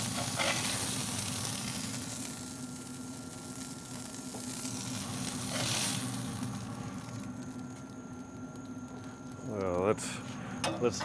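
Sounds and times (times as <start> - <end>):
patties sizzling on a griddle: 0.0 - 11.0.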